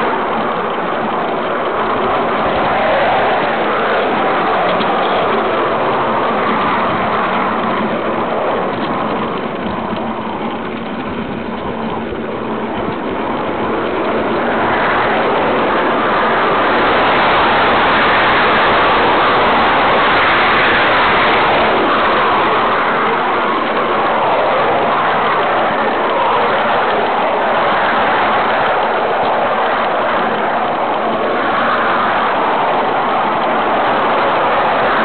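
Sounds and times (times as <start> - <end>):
model steam locomotive running: 0.0 - 35.0.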